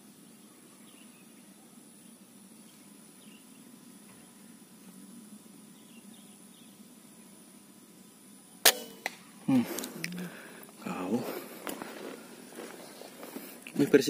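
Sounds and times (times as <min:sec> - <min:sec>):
high-pitched insect drone: 0:00.0 - 0:14.0
low background hum: 0:00.0 - 0:14.0.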